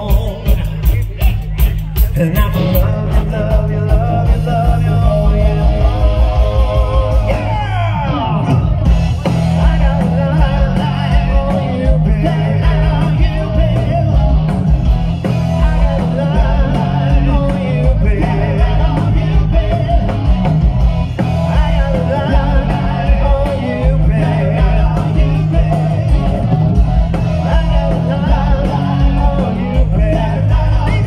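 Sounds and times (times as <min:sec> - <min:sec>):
bass guitar: 0:00.0 - 0:31.0
drum kit: 0:00.0 - 0:31.0
electric guitar: 0:00.0 - 0:31.0
man singing: 0:00.0 - 0:31.0.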